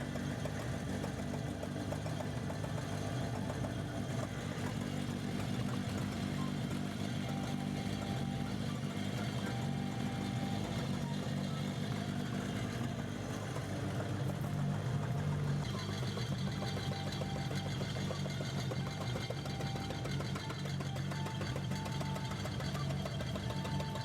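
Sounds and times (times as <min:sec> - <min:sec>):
car engine idling: 0:00.0 - 0:24.0
rapid light engine ticking: 0:00.0 - 0:24.0.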